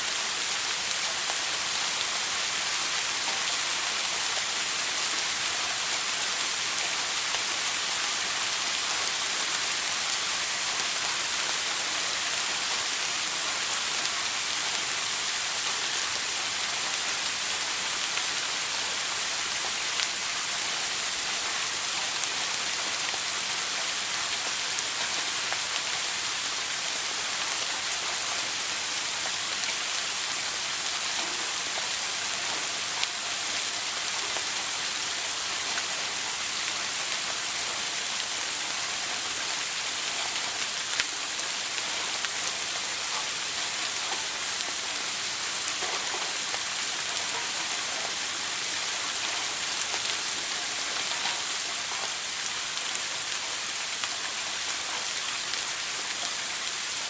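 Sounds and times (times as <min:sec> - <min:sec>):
shower spray hissing: 0:00.0 - 0:57.0.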